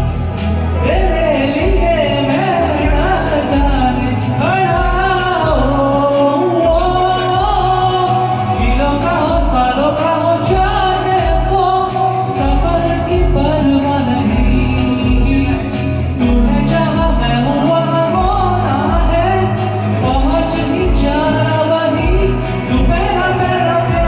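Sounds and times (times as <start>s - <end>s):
instrumental accompaniment with beat: 0.0s - 24.0s
man singing a ballad: 0.0s - 24.0s.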